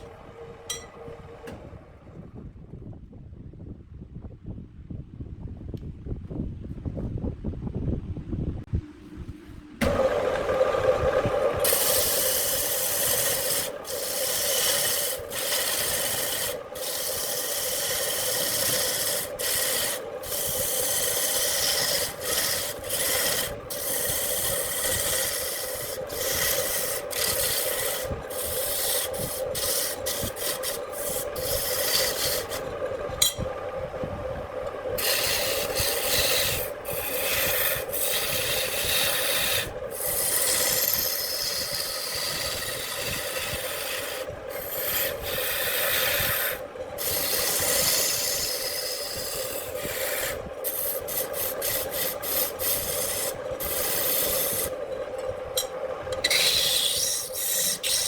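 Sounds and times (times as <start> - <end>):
wood lathe humming: 0.0 - 2.1, 9.8 - 58.0
tool rasping on spinning wood: 9.8 - 33.7, 34.4 - 58.0.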